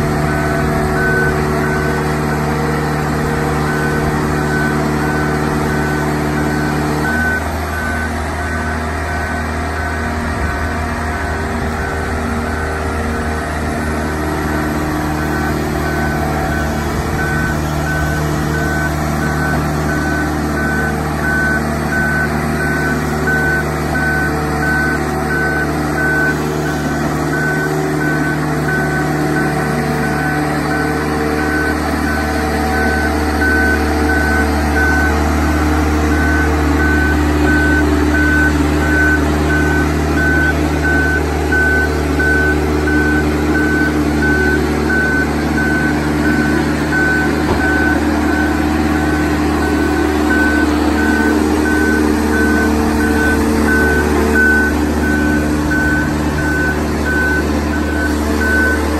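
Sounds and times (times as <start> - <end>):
engine humming: 0.0 - 58.9
travel alarm beeping: 0.3 - 2.5, 3.7 - 12.8, 14.2 - 35.2, 36.1 - 58.9.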